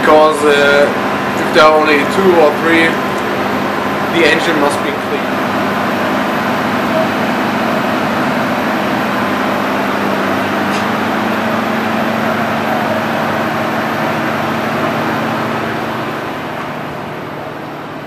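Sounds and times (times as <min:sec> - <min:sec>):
constant low hum: 0:00.0 - 0:18.0
gas engines droning: 0:00.0 - 0:18.0.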